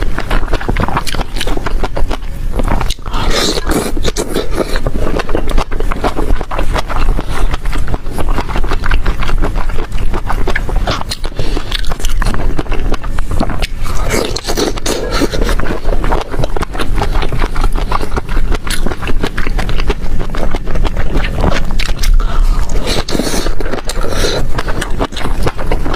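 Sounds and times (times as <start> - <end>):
person biting and chewing: 0.0 - 25.9.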